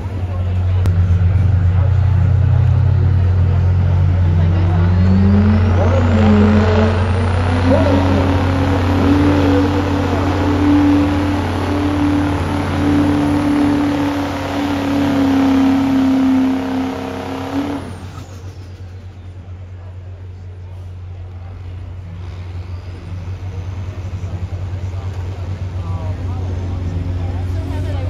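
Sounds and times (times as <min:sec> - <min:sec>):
diesel truck engine at high revs: 0:00.0 - 0:28.0.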